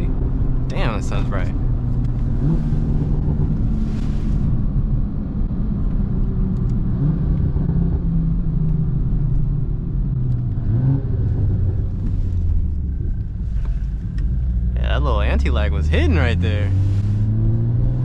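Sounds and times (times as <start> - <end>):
car engine under throttle: 0.0 - 18.0
road and tire noise: 0.0 - 18.0.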